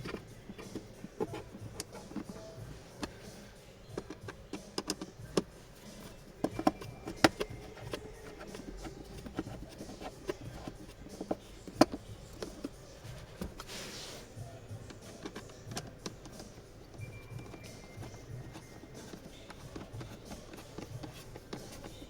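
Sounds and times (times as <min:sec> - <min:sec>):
plastic parts clicking and knocking: 0:00.0 - 0:22.0
soft rustle: 0:00.0 - 0:22.0.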